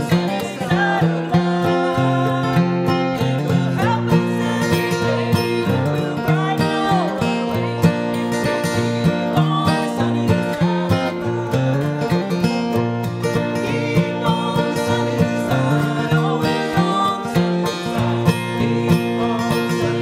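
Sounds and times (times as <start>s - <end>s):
acoustic guitar: 0.0s - 20.0s
banjo picking: 0.0s - 20.0s
mandolin: 0.0s - 20.0s
woman singing: 0.0s - 20.0s.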